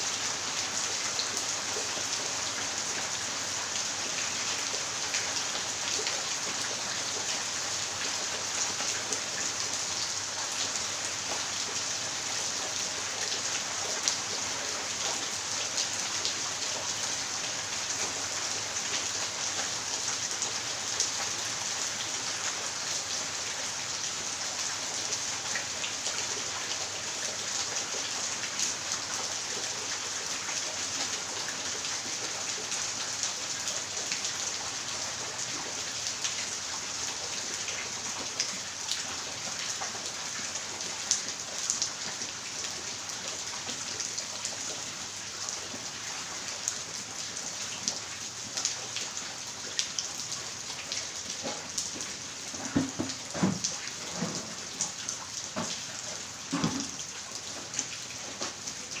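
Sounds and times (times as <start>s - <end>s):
rain pattering on wet ground: 0.0s - 59.0s
drips and splashes: 1.1s - 59.0s.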